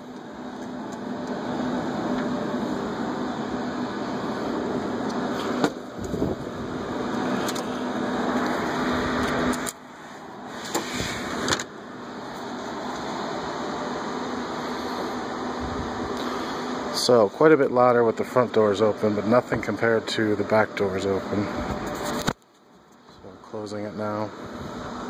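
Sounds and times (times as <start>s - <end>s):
server cooling fans whirring: 0.0s - 25.0s.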